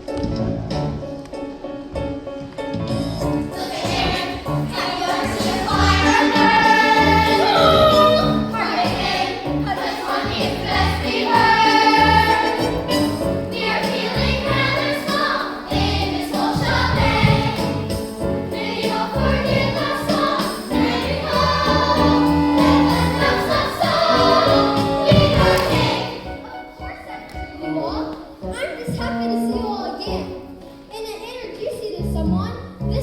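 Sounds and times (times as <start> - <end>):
instrumental accompaniment: 0.0 - 30.8.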